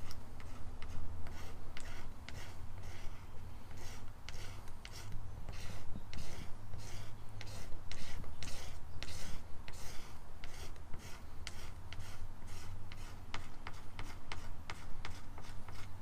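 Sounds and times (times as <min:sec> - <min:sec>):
razor blade scraping plastic: 0:00.0 - 0:16.0
steady low hum: 0:00.0 - 0:16.0.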